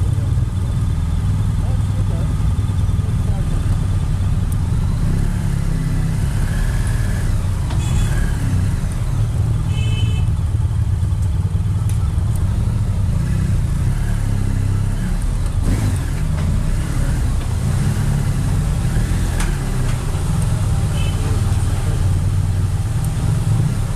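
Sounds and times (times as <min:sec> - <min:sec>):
motorcycle engine at low revs: 0:00.0 - 0:23.9.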